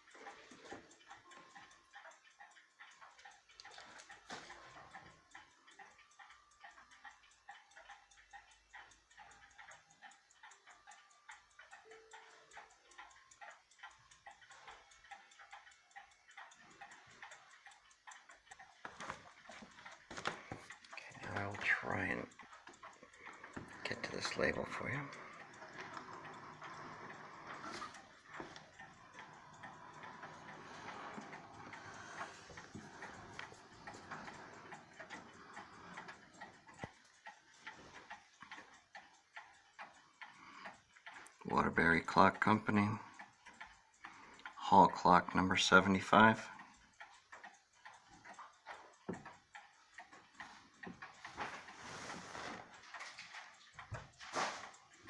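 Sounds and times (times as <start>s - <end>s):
pendulum clock ticking: 0.0s - 55.0s.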